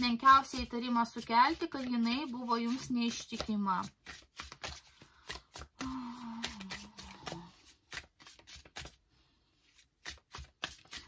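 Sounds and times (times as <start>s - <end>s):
cards being shuffled: 0.6s - 11.0s.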